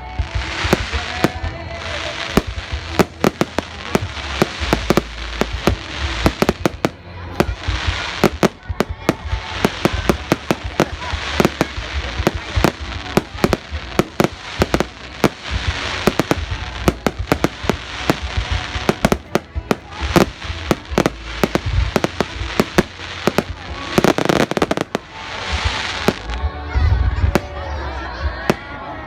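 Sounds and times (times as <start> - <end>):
fireworks bangs and crackle: 0.0 - 29.0.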